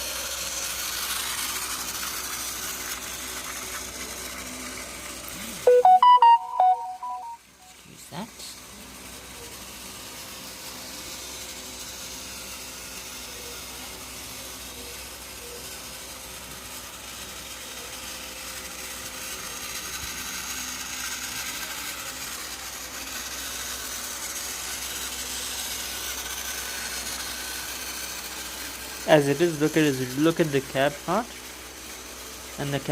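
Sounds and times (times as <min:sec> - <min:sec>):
toy train motor whirring: 0:00.0 - 0:05.7, 0:07.7 - 0:32.9.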